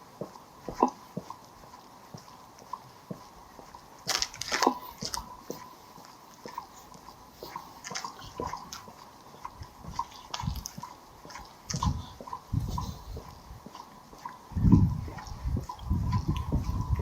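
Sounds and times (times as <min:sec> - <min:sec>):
footsteps crunching on grit: 0:00.0 - 0:17.0.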